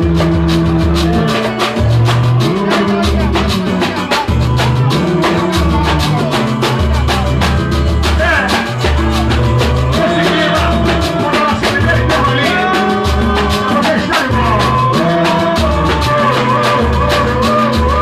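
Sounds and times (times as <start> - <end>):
band music with percussion: 0.0 - 18.0
person singing: 0.0 - 18.0.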